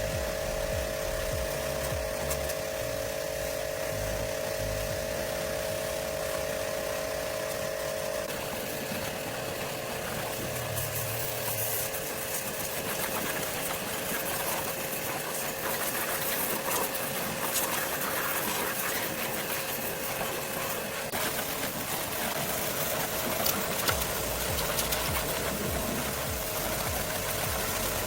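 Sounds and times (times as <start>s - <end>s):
small motor running with rattle: 0.0s - 28.0s.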